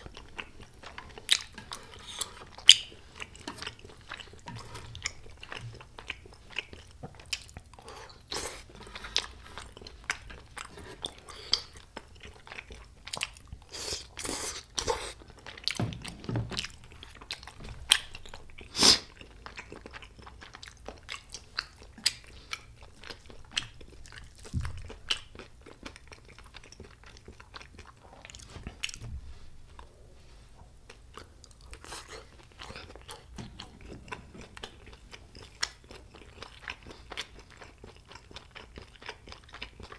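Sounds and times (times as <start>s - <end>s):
chewing and mouth clicks: 0.0s - 29.0s, 30.9s - 39.9s.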